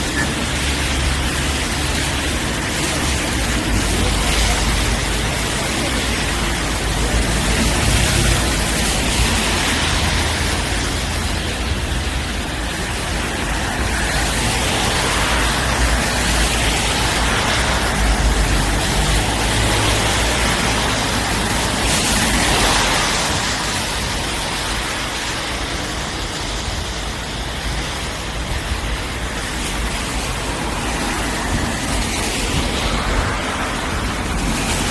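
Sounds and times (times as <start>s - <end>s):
tyres hissing on wet road: 0.0s - 34.9s.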